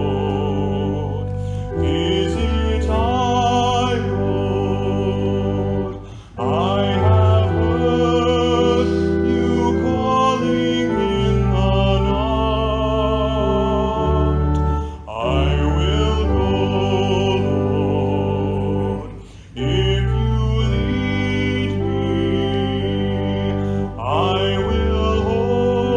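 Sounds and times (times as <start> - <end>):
instrumental accompaniment chords: 0.0 - 25.9
person singing a hymn: 0.0 - 25.9.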